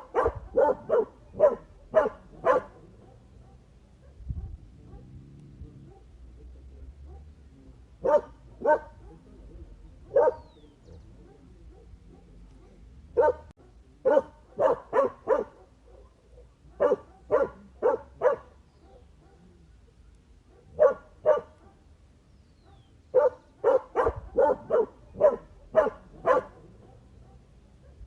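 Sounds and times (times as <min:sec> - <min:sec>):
dog barking: 0:00.0 - 0:07.4, 0:08.0 - 0:21.9, 0:22.6 - 0:28.0.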